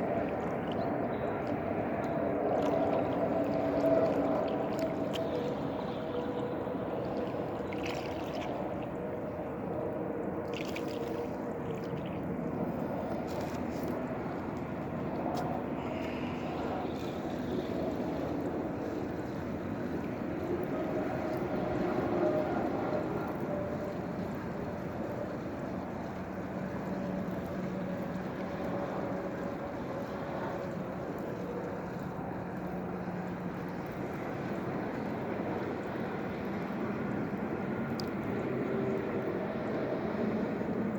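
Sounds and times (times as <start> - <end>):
faint steady hum: 0.0 - 40.9
water lapping around kayak: 0.0 - 40.9
wind: 0.0 - 40.9.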